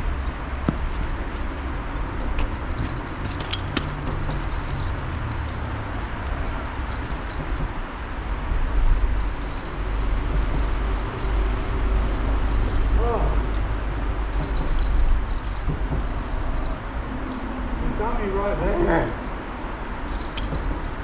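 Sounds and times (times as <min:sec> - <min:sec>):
insect chirring: 0:00.0 - 0:17.8, 0:19.0 - 0:21.0.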